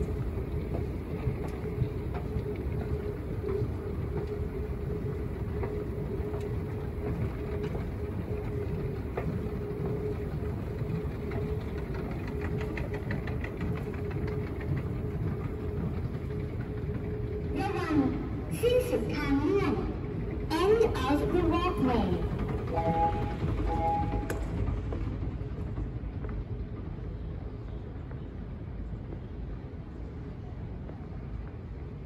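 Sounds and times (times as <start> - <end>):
low mechanical rumble: 0.0 - 27.8
constant hum: 0.0 - 32.0.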